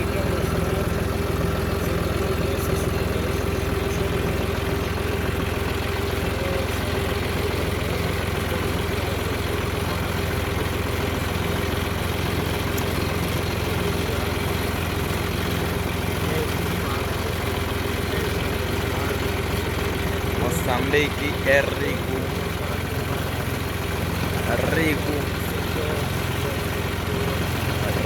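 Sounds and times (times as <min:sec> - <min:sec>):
vehicle engine running steadily: 0:00.0 - 0:28.0.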